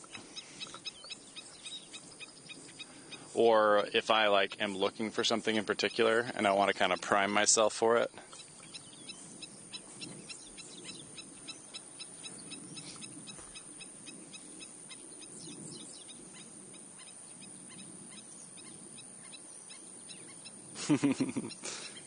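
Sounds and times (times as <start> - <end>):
birds chirping: 0.0 - 22.0
long sweeping bird calls: 0.0 - 22.0.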